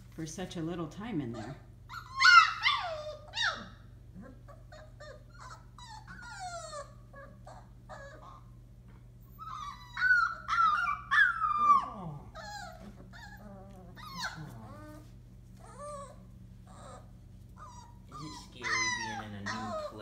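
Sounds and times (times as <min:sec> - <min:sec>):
puppies whimpering and whining: 0:01.3 - 0:08.6, 0:09.2 - 0:20.0.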